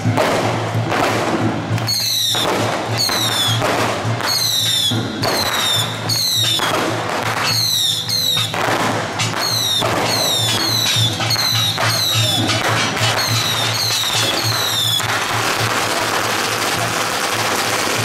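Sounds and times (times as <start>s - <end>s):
firecrackers crackling: 0.0s - 18.0s.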